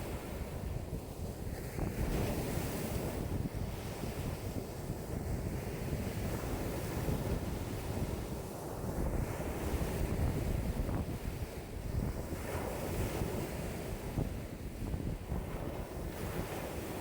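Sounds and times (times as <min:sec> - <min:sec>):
waves breaking on lakeshore: 0:00.0 - 0:17.0
wind buffeting microphone: 0:00.0 - 0:17.0.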